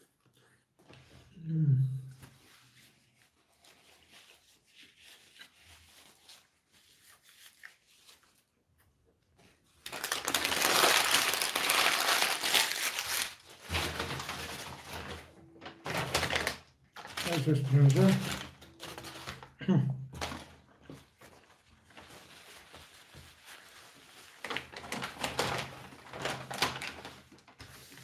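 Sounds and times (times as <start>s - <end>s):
paper wrappers crumpling: 2.3s - 8.5s, 9.8s - 19.6s, 20.2s - 28.0s.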